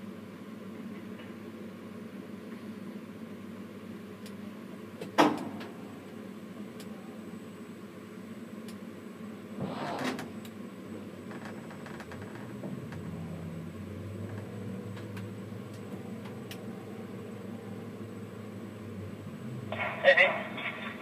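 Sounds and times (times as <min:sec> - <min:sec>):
crane machinery hum: 0:00.0 - 0:21.0.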